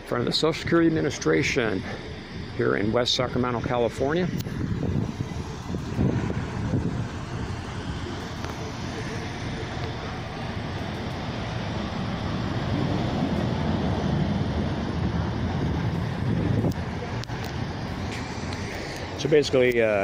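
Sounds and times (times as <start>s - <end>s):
road traffic rumbling: 0.0s - 20.0s.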